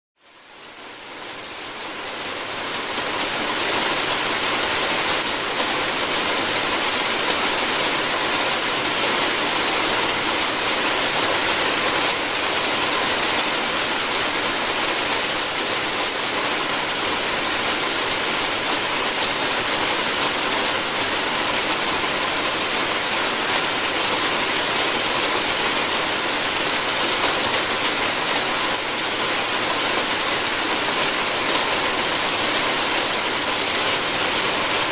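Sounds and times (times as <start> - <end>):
rain on a roof: 0.2 - 34.9.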